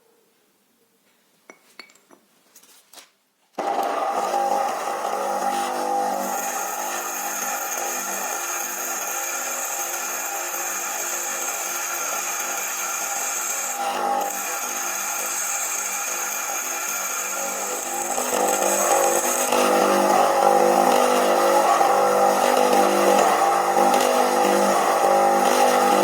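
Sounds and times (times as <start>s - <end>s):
power tool whining: 3.6s - 26.0s.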